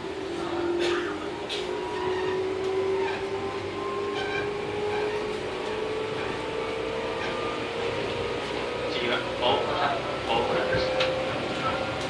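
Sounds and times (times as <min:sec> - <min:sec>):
train traction motor hum: 0:00.0 - 0:12.0
wheels rumbling on rail: 0:00.0 - 0:12.0.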